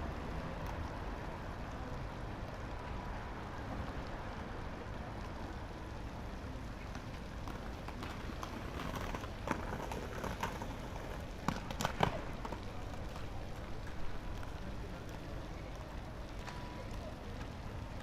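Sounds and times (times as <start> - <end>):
skateboard wheels rolling on concrete: 0.0 - 18.0.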